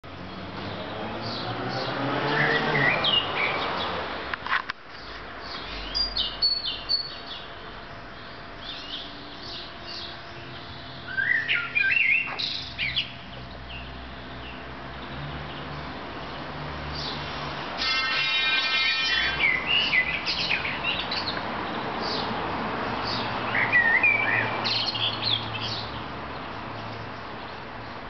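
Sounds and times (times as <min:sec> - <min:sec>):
songbirds chirping and warbling: 0:00.1 - 0:04.2, 0:04.9 - 0:28.0.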